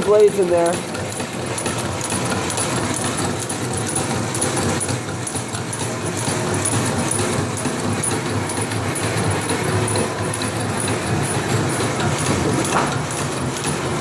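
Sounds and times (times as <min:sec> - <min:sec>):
power hacksaw clattering: 0:00.0 - 0:14.0.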